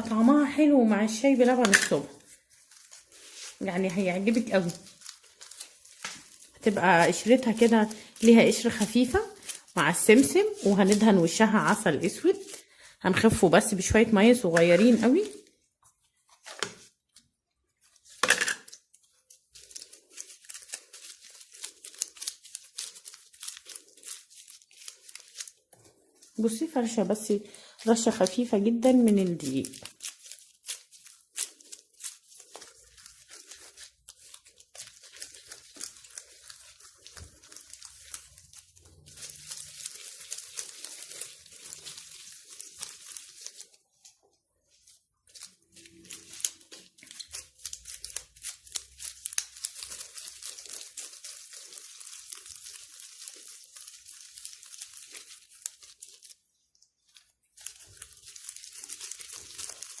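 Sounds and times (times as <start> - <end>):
hands rolling dough: 0.0 - 60.0.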